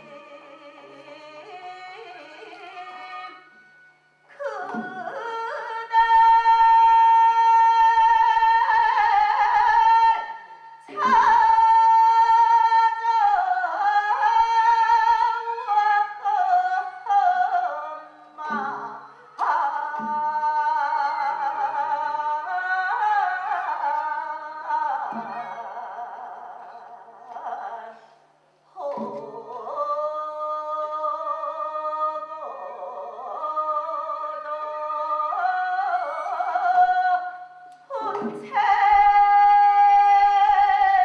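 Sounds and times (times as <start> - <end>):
high voice singing folk song: 0.0 - 28.2, 28.8 - 41.0.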